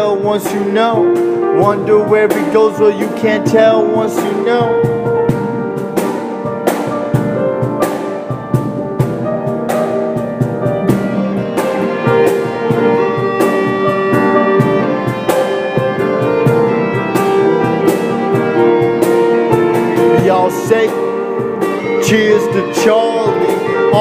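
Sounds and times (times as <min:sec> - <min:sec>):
band playing instrumental: 0:00.0 - 0:24.0.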